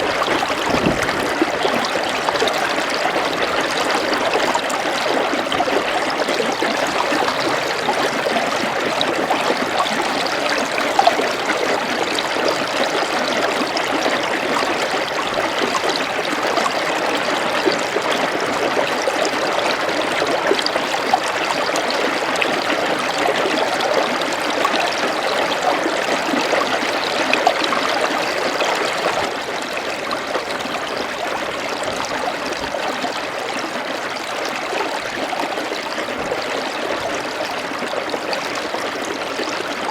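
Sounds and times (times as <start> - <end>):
faint water splashes: 0.0 - 39.9
stream flowing: 0.0 - 39.9.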